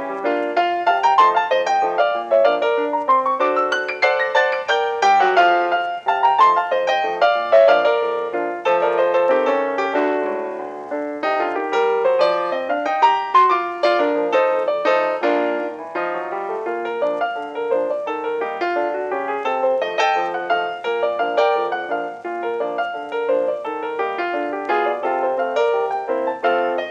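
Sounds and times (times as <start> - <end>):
piano playing quick runs: 0.0 - 26.9.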